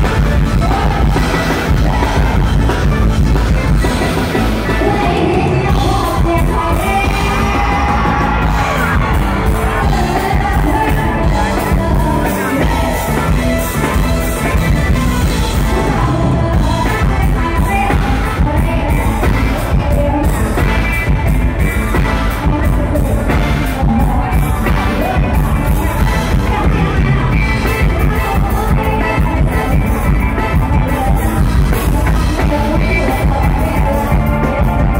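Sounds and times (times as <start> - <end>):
live band music: 0.0 - 34.9
person singing: 0.0 - 34.9.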